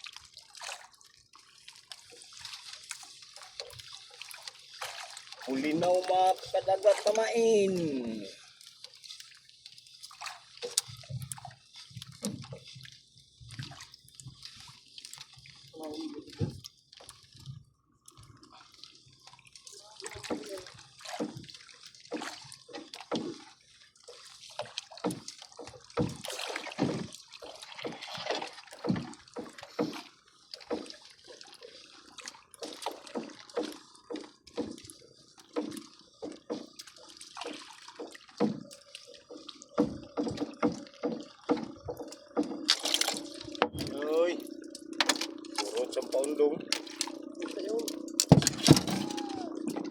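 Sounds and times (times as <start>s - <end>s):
water splashing against boat: 0.0s - 49.9s.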